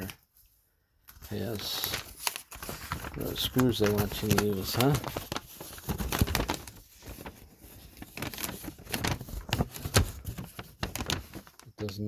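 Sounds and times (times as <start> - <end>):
plastic packets crinkling: 1.1 - 12.0.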